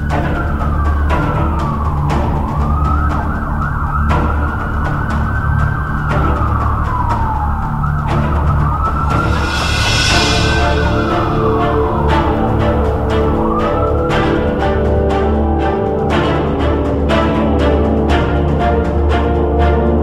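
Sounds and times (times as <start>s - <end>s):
emergency siren wailing: 0.0s - 20.0s
soundtrack music: 0.0s - 20.0s.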